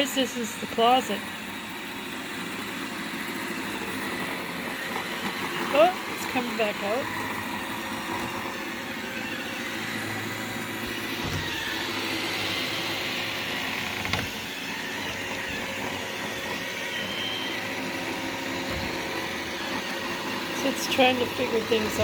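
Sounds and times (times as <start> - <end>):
robot vacuum whirring: 0.0 - 22.0.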